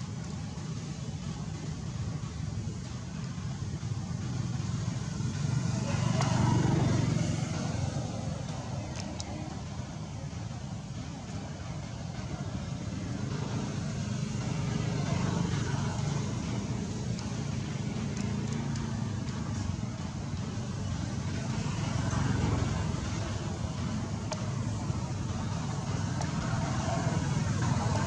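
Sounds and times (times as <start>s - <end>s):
engine rumble: 0.0s - 28.0s.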